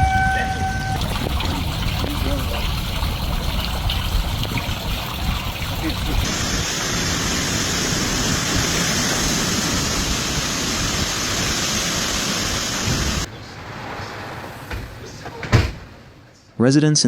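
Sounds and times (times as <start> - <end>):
heavy rain: 0.0 - 14.5
storm wind: 0.0 - 15.2.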